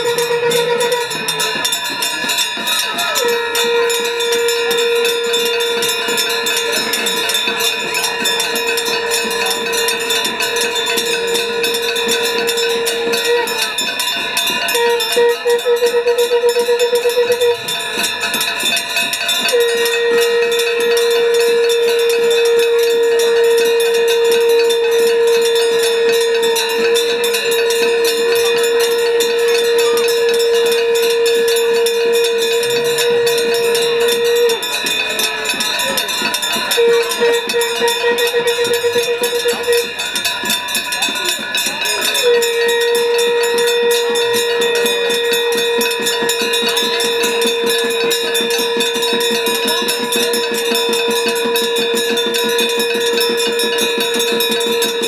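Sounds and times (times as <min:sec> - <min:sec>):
bells clanging: 0:00.0 - 0:55.0
conch shells blowing: 0:00.0 - 0:55.0.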